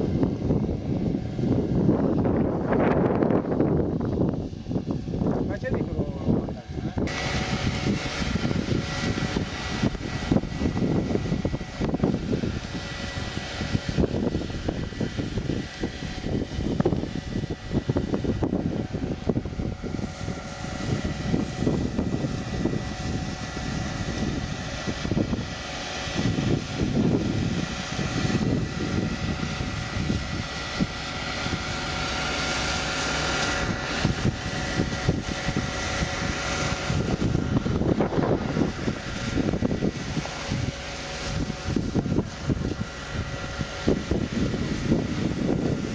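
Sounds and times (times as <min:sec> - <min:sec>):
engine running steadily: 0:00.0 - 0:45.9
wind buffeting microphone: 0:00.0 - 0:45.9.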